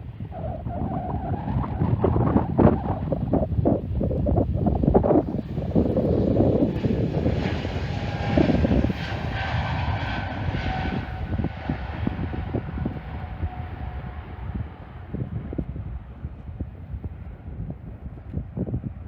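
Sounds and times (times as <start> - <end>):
airliner engines passing overhead: 0.0 - 19.0.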